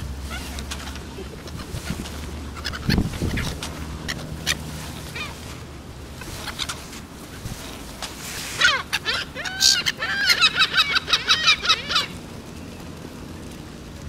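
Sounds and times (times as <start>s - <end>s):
steady outdoor hiss: 0.0s - 14.0s
harsh repeated bird calls: 0.2s - 7.5s, 8.3s - 12.7s.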